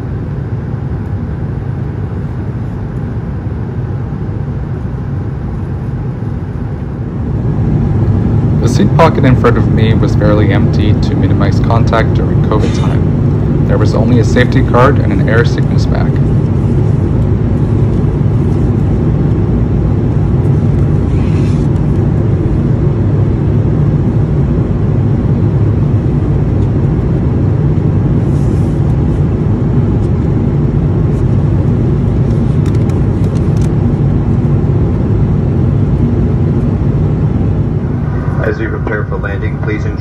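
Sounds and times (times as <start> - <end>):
airplane cabin drone in flight: 0.0 - 40.0.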